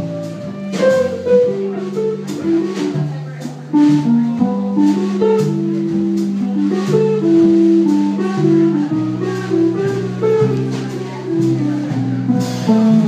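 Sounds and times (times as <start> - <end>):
jazz band playing: 0.0 - 13.0.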